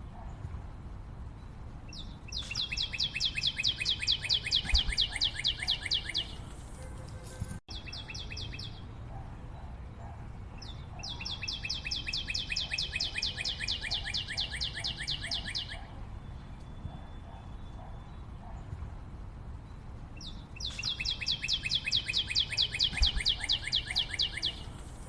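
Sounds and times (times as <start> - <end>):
low background noise: 0.0 - 25.0.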